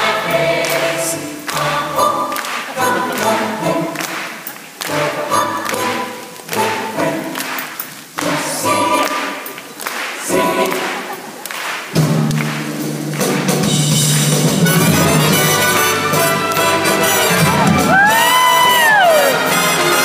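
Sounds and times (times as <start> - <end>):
musical chorus singing: 0.0 - 20.0.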